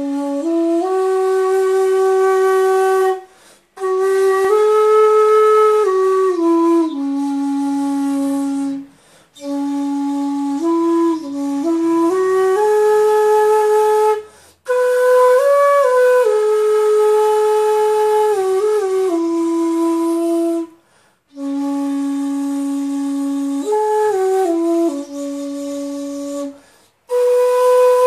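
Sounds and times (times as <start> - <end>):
bamboo flute slow melody: 0.0 - 28.0.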